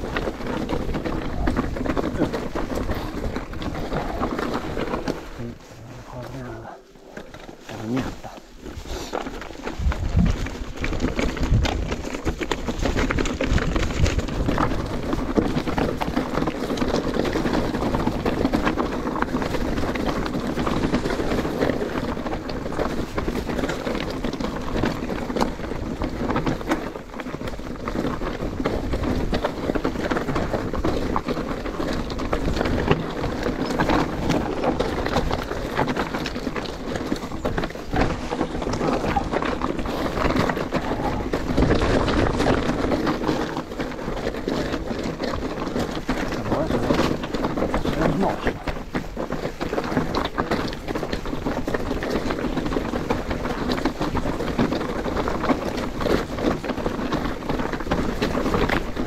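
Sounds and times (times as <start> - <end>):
bike rattling and knocking: 0.0 - 59.0
tyres crunching on stones: 0.0 - 59.0.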